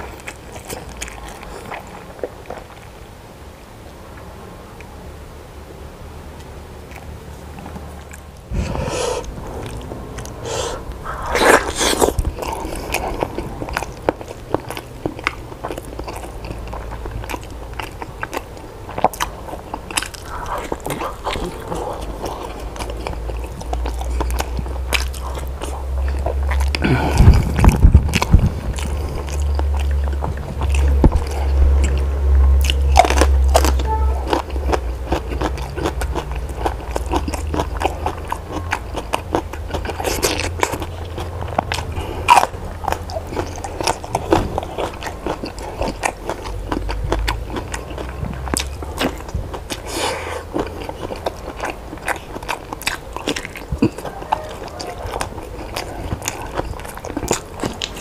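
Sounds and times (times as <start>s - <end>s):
person chewing food: 0.0s - 3.0s, 6.4s - 58.0s
mouth clicks: 8.1s - 58.0s.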